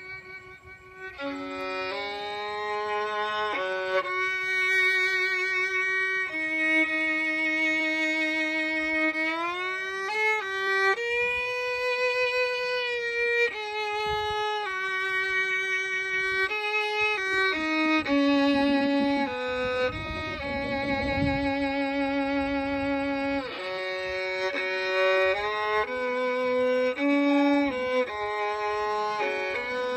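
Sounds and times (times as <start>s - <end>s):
solo bowed fiddle melody: 0.0s - 29.9s.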